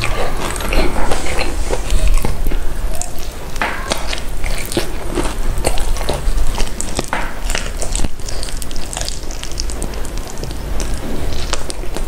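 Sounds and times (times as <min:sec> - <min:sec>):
crunchy chewing of food: 0:00.0 - 0:12.0.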